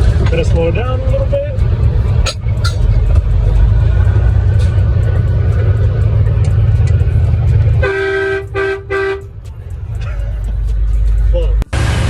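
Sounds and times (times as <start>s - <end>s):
road noise: 0.0s - 12.0s
truck diesel engine rumble: 0.0s - 12.0s.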